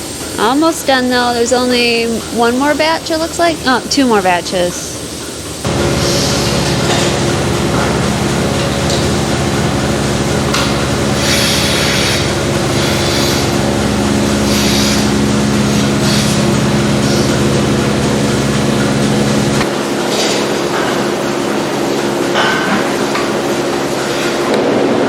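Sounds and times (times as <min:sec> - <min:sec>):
machine motor humming: 0:00.0 - 0:25.0.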